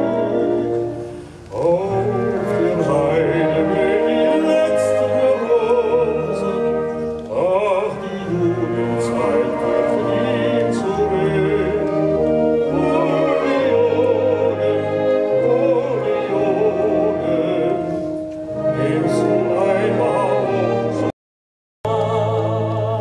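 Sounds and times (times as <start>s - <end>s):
man singing operatically: 0.0s - 21.1s, 21.9s - 23.0s
wind orchestra playing: 0.0s - 21.1s, 21.9s - 23.0s.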